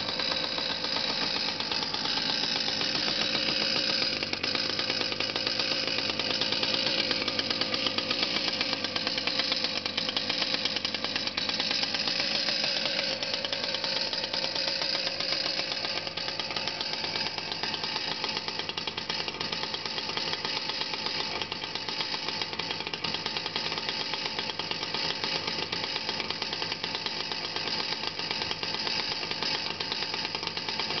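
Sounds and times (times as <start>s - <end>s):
small petrol engine running: 0.0s - 31.0s.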